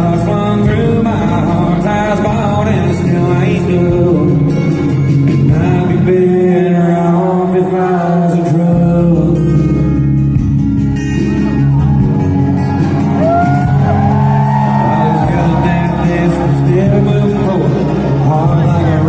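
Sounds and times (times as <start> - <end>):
lead guitar line bending: 0.0 - 19.0
live country rock band: 0.0 - 19.0.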